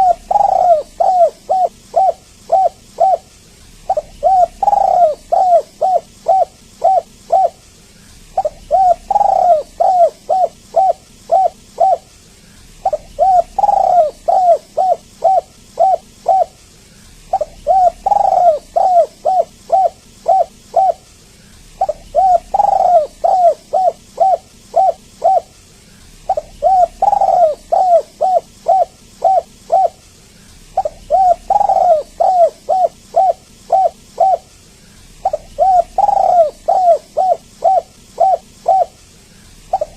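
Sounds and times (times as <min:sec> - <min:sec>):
dove cooing: 0:00.0 - 0:34.5, 0:35.1 - 0:39.9.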